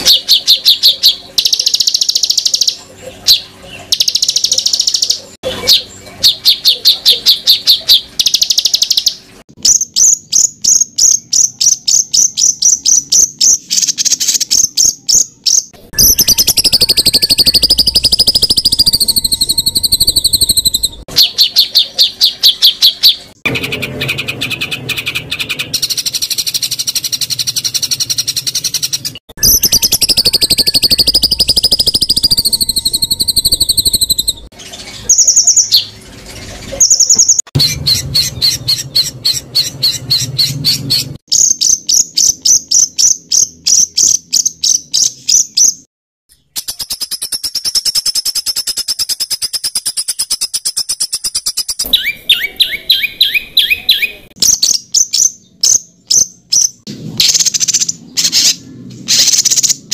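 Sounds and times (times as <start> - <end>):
buzzy bird trills: 0.0 - 45.8, 46.4 - 59.9
high repeated bird chirps: 0.0 - 59.9.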